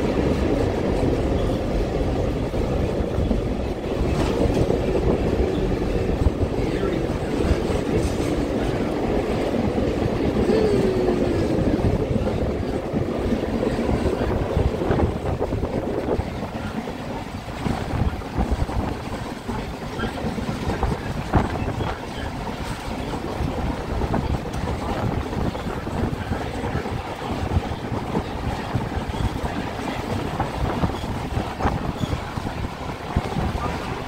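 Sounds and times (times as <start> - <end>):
train wheels rumbling on rails: 0.0 - 34.0
wind on the microphone: 0.0 - 34.0.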